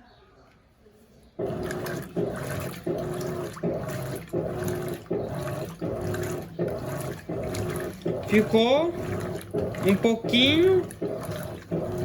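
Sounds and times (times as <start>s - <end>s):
agitator reversing direction: 1.4s - 12.0s
washing machine motor humming: 1.4s - 12.0s
water sloshing: 1.4s - 12.0s.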